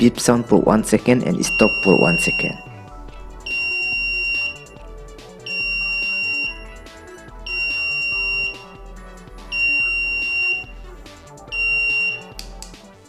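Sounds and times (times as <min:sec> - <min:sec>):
quiet background music: 0:00.0 - 0:13.0
piezo buzzer beeping: 0:01.4 - 0:12.7.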